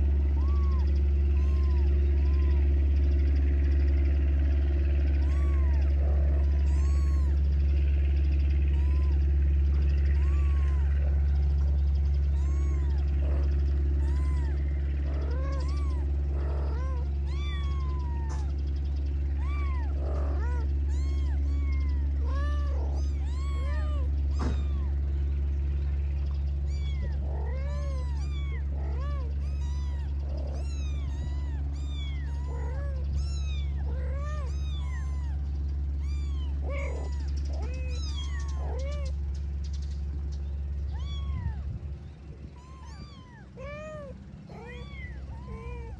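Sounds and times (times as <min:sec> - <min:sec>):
kittens mewing: 0:00.0 - 0:45.9
low engine hum: 0:00.0 - 0:45.9.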